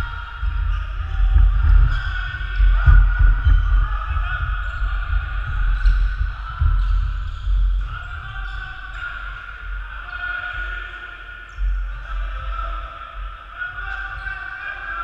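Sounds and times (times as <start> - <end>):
indistinct voices: 0.0 - 15.0.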